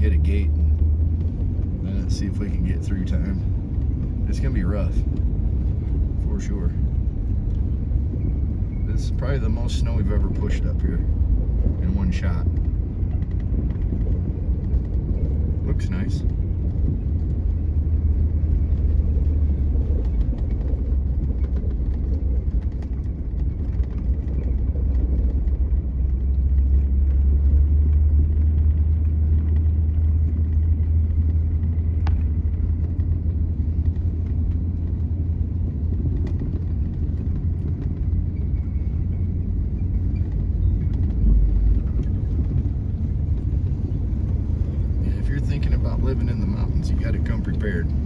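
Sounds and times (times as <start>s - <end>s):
truck rumbling on snowy road: 0.0s - 48.0s.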